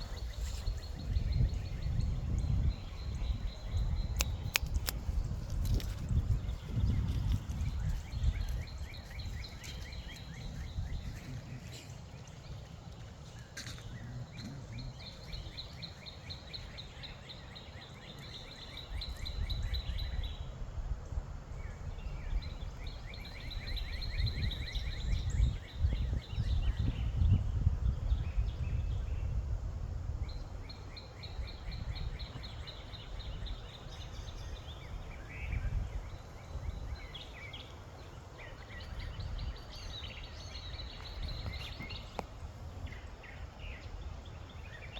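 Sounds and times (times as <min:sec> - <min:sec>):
wind rumble on microphone: 0:00.0 - 0:44.9.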